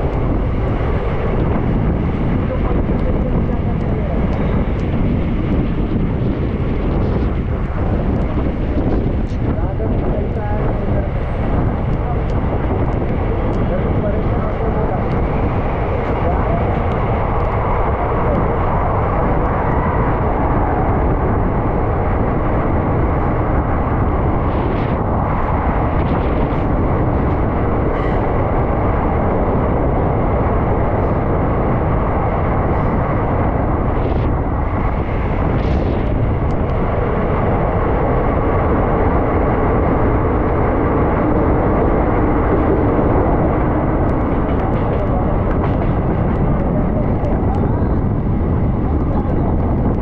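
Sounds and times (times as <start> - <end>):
train wheels rumbling in tunnel: 0.0 - 50.0.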